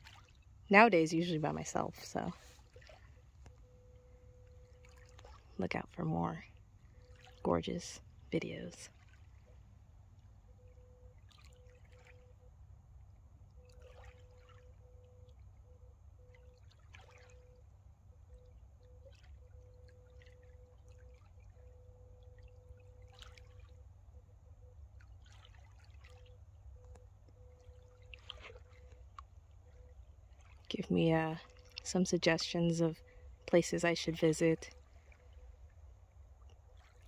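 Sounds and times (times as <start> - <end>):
small waves lapping: 0.0 - 37.0
thin faint hum: 0.0 - 37.0.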